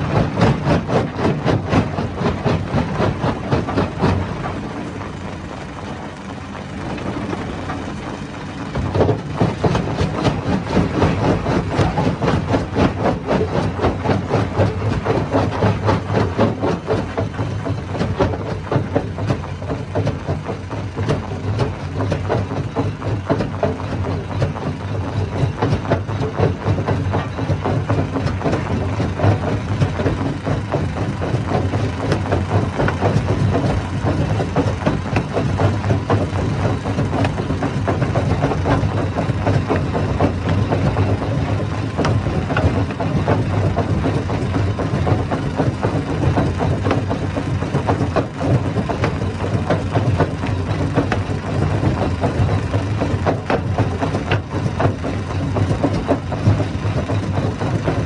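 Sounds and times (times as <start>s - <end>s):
rocks clattering in machine: 8.7s - 58.0s.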